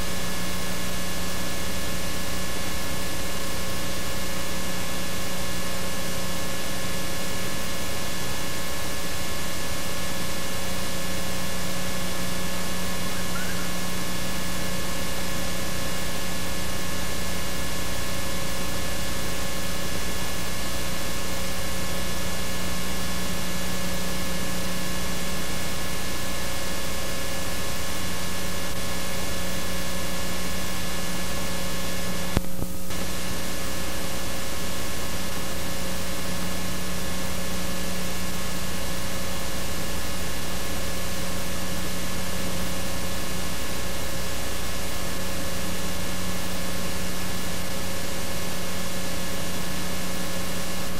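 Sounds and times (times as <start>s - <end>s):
tape hiss and electrical hum: 0.0s - 50.9s.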